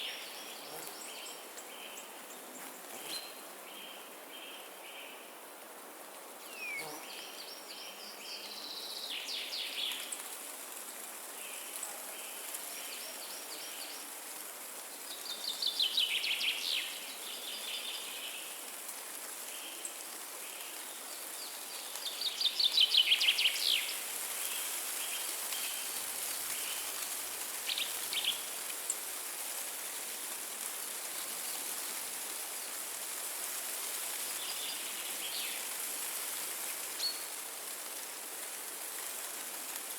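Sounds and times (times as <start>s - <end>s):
wind in trees: 0.0s - 39.9s.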